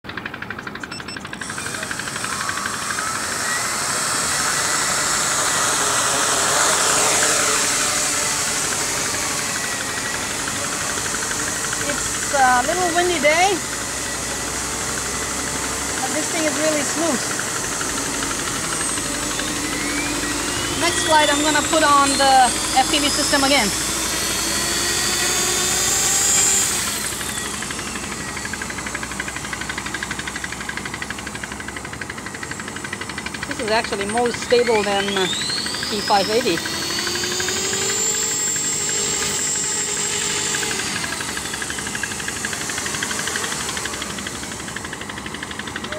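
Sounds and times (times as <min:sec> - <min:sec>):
multirotor propellers buzzing: 0:00.0 - 0:45.9
quadcopter motors whirring: 0:00.0 - 0:45.9.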